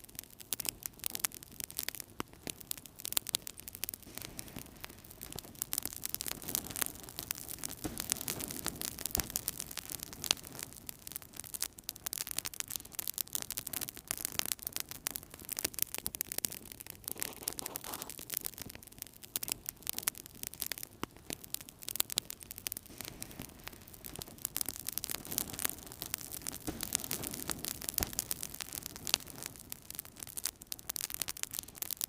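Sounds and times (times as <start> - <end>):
wood fire crackling and popping: 0.0 - 32.0
hiss of flames: 1.8 - 14.5, 15.1 - 18.7, 19.3 - 32.0.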